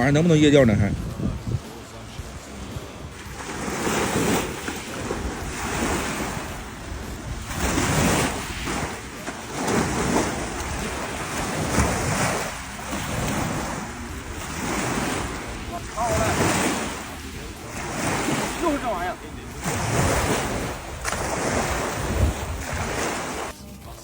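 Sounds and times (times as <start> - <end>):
waves washing onto shore: 0.0 - 23.6
wind buffeting microphone: 0.0 - 23.6.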